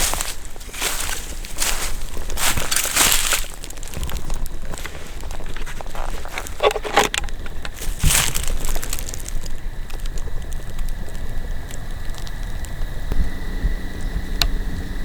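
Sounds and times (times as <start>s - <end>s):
footsteps crunching through dry leaves: 0.0s - 12.9s.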